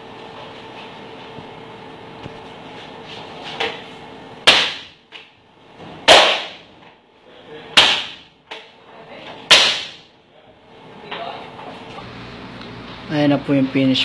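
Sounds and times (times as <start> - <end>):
kitchen equipment hum: 0.0 - 14.0.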